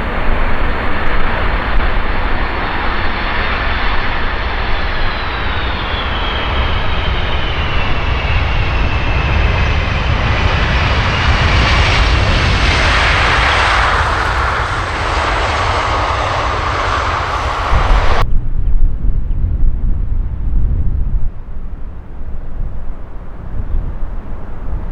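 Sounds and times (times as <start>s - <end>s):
steady low rumble: 0.0s - 22.8s
aircraft engine whine: 0.0s - 24.9s.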